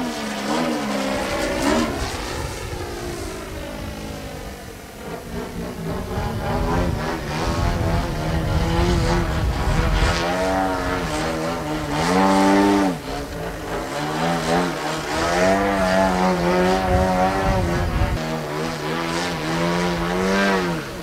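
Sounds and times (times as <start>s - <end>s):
model plane engine in flight: 0.0s - 21.0s.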